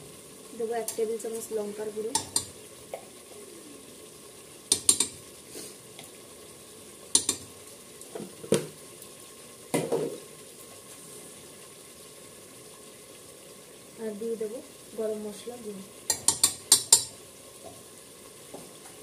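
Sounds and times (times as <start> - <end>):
spices sizzling in oil: 0.0 - 19.0.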